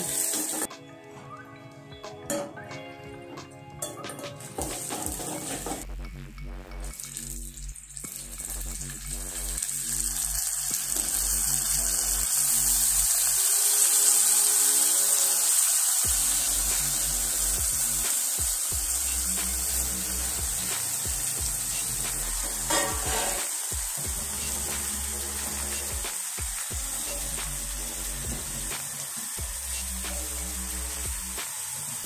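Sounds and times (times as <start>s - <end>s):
tomatoes sizzling in hot oil: 0.0s - 0.7s, 3.9s - 5.8s, 6.8s - 32.0s.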